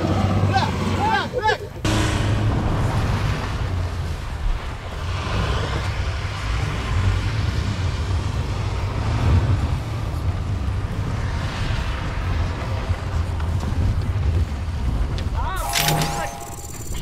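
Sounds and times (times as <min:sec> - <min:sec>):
tyres churning snow: 0:00.0 - 0:16.9.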